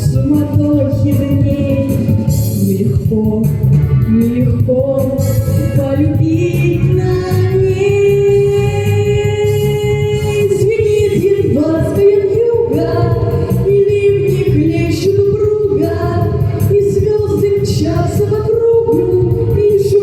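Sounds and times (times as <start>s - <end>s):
backing track: 0.0s - 20.0s
woman singing long notes: 0.0s - 20.0s.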